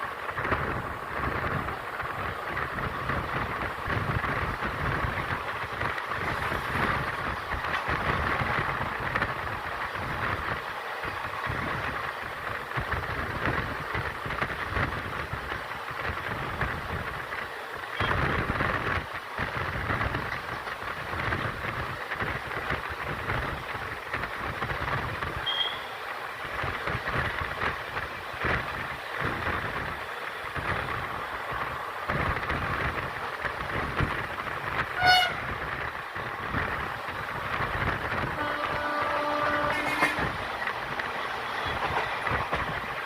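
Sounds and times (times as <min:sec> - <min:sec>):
train rumble and rushing: 0:00.0 - 0:43.0
wheels clattering on track: 0:00.0 - 0:43.0.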